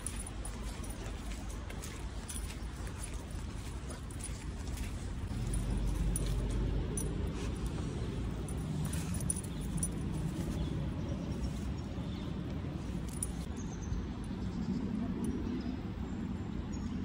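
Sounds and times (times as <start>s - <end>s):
low rumble of wet city street: 0.0s - 17.0s.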